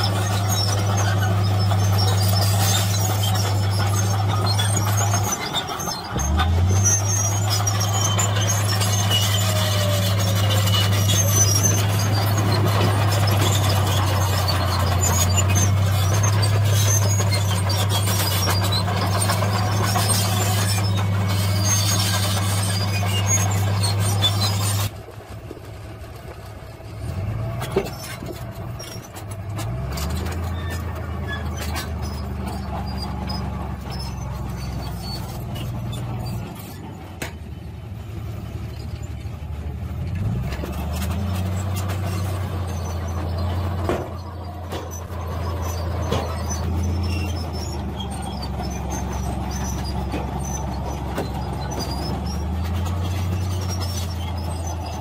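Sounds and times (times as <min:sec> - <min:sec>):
bulldozer diesel engine: 0:00.0 - 0:55.0
steel tracks squealing and clanking: 0:00.0 - 0:55.0
truck engine revving: 0:00.0 - 0:55.0.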